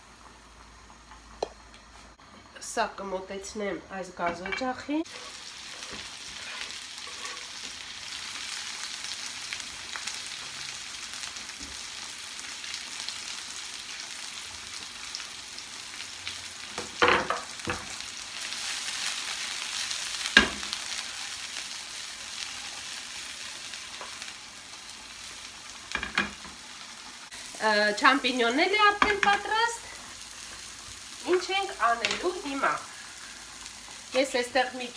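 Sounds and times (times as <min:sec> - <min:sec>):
mushrooms sizzling in frying pan: 0:00.0 - 0:34.9.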